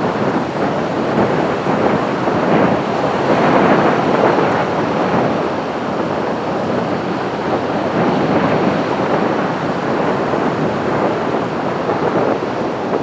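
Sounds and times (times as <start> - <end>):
ocean surf breaking on beach: 0.0 - 13.0
wind on the microphone: 0.0 - 13.0.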